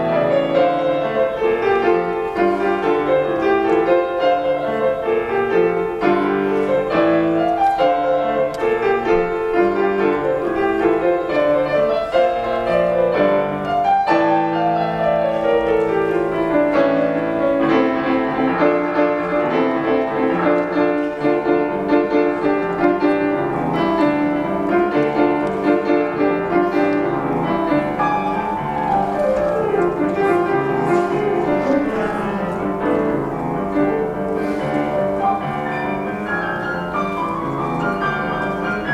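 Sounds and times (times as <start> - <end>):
solo piano playing: 0.0 - 38.9.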